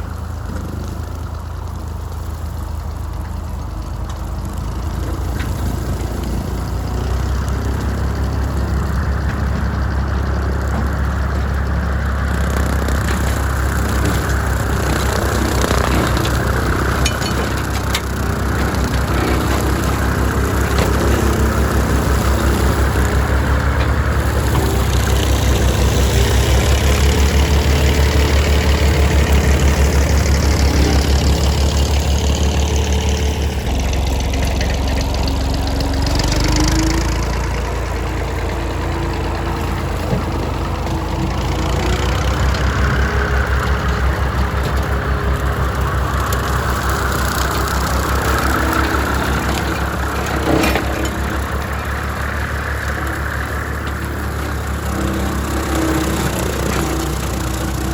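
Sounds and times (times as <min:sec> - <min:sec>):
small tractor engine rumbling: 0:00.0 - 0:57.9.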